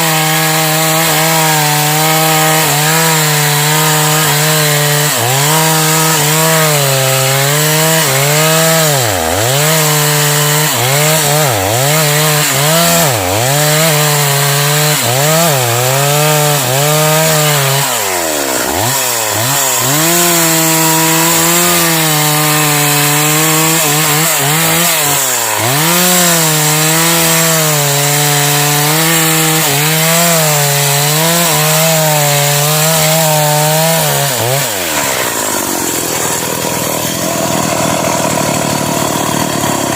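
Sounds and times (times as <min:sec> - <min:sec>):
chainsaw cutting into tree trunk: 0:00.0 - 0:39.9.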